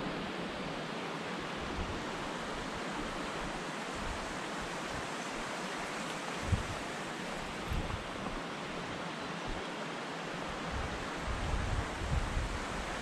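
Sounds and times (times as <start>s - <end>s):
creek flowing over stones: 0.0s - 13.0s.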